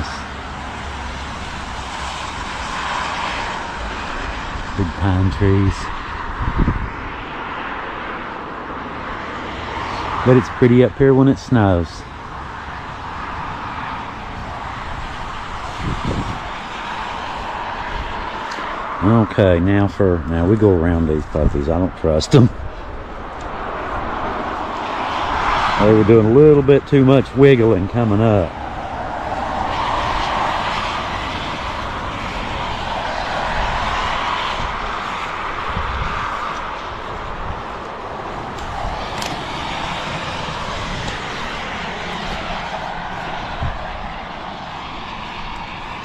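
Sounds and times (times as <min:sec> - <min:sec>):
traffic hiss on wet highway: 0:00.0 - 0:46.0.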